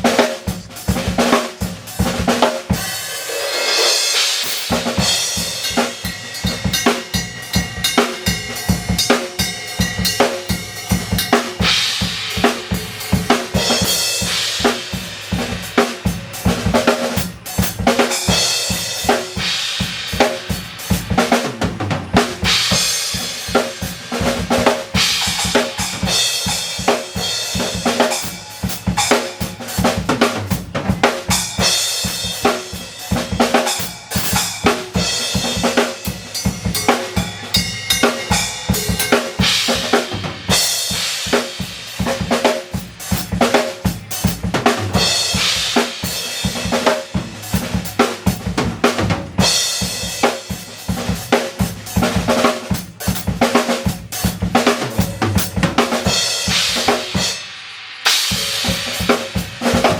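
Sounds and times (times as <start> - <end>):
drum kit playing a groove: 0.0 - 59.9.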